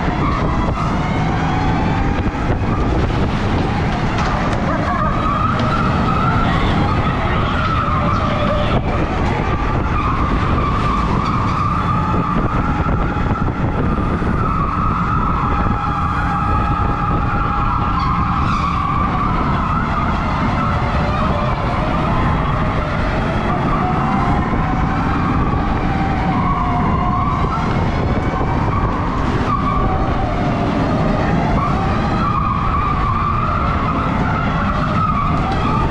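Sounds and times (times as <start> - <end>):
low rumble of tyres: 0.0 - 35.9.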